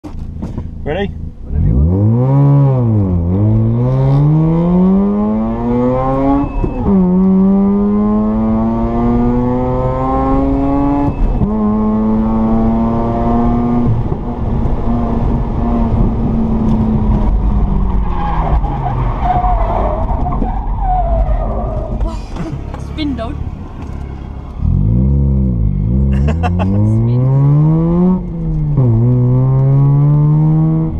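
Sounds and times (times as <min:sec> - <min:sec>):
car engine accelerating: 0:00.0 - 0:30.9.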